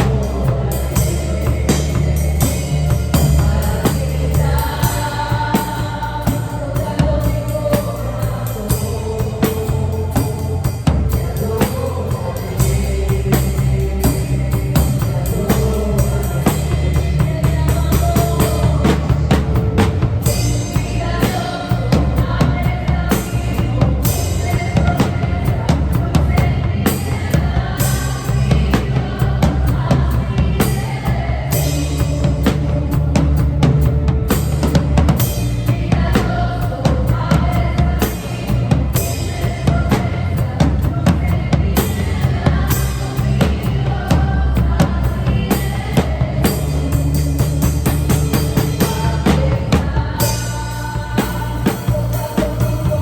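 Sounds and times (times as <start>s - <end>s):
acoustic drum kit playing: 0.0s - 53.0s
backing track music: 0.0s - 53.0s.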